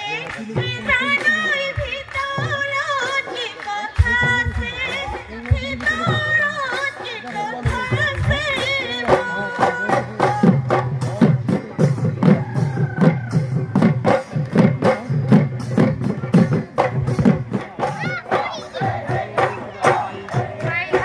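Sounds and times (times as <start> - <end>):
drums beating quick rhythm: 0.0 - 21.0.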